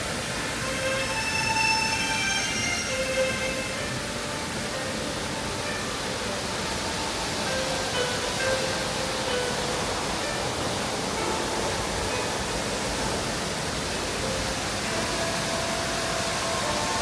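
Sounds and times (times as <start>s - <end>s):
soft music: 0.0s - 17.0s
waterfall rushing water: 0.0s - 17.0s.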